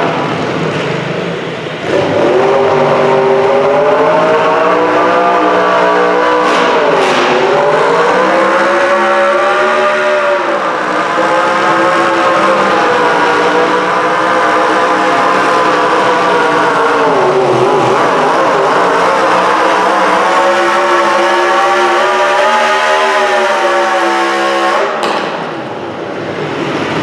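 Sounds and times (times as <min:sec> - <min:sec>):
tractor engine running at high revs: 0:00.0 - 0:27.0.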